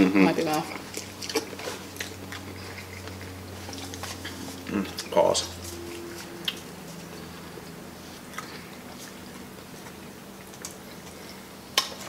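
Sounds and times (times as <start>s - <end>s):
chewing: 0.0s - 12.0s
low hum: 0.0s - 12.0s.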